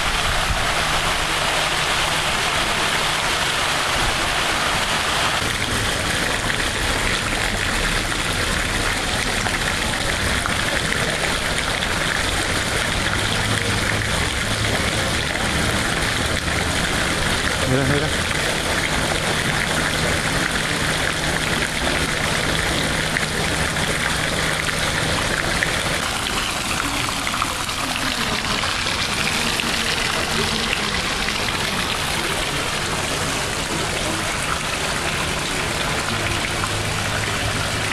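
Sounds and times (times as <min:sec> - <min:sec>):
heavy rain: 0:00.0 - 0:37.9
running water: 0:00.0 - 0:37.9.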